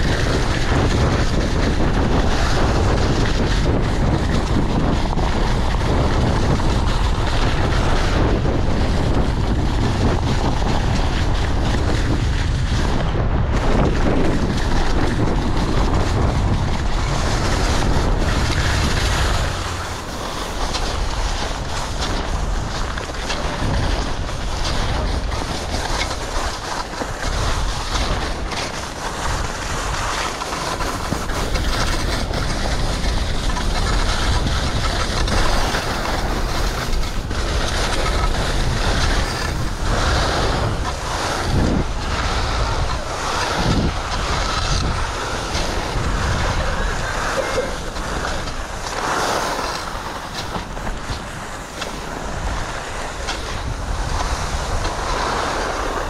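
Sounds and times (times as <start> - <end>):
skis scraping over snow: 0.0 - 56.0
wind rushing over microphone: 0.0 - 56.0.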